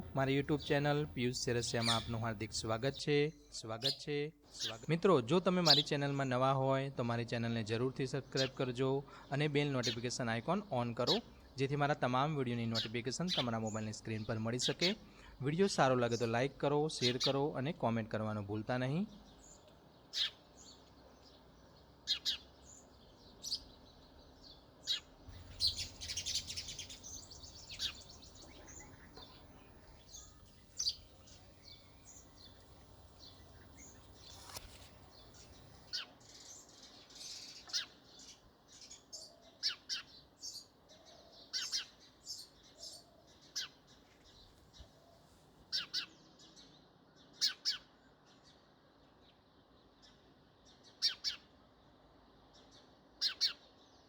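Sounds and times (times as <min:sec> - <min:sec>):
sparrows chirping: 0:00.0 - 0:48.6, 0:49.8 - 0:51.4, 0:52.5 - 0:54.0.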